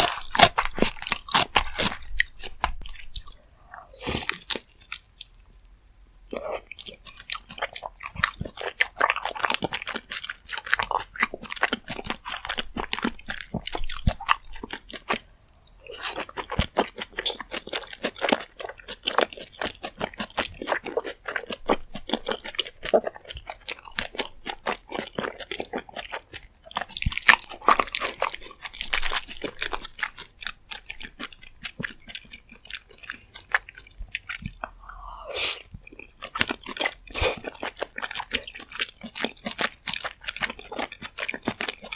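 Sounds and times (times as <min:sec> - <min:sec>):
wet chewing with crunchy bites: 0:00.0 - 0:41.9.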